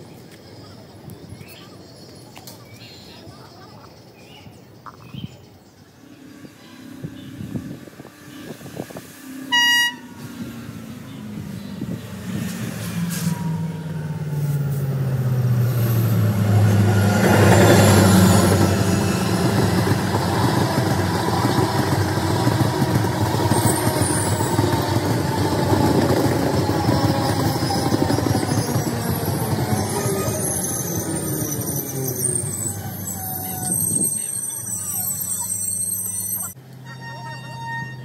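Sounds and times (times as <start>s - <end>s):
diesel locomotive engine drone: 4.7s - 38.0s
train wheels rumbling on rail: 6.0s - 36.6s.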